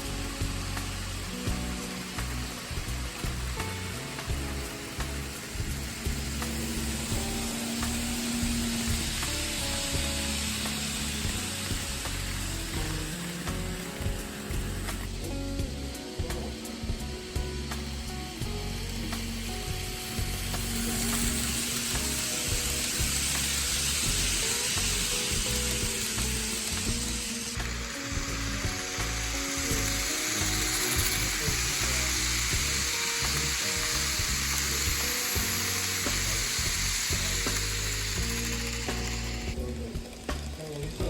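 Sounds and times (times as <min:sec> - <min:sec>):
faint background music: 0:00.0 - 0:41.0
model train wheels rattling on rails: 0:00.0 - 0:41.0.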